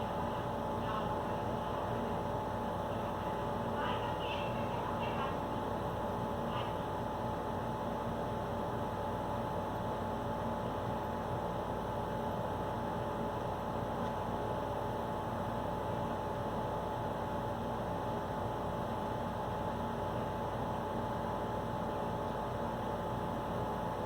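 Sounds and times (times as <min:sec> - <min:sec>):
room tone hum and hiss: 0:00.0 - 0:24.0.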